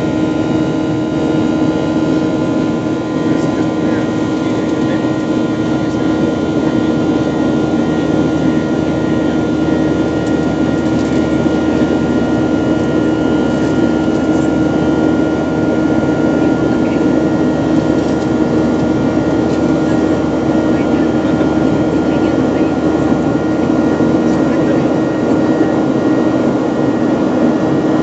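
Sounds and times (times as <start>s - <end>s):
jet engine drone in cabin: 0.0s - 28.0s.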